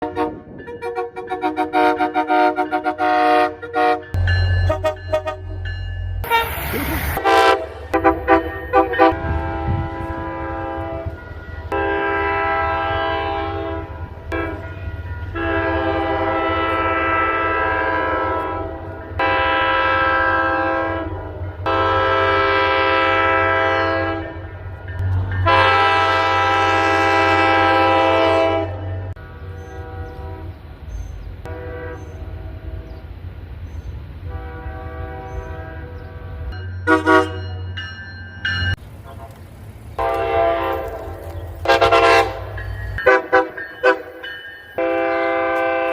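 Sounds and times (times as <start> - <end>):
train air horn blasts: 0.0 - 5.6, 6.2 - 30.6, 31.4 - 33.0, 34.2 - 37.6, 40.0 - 44.2, 44.8 - 45.9.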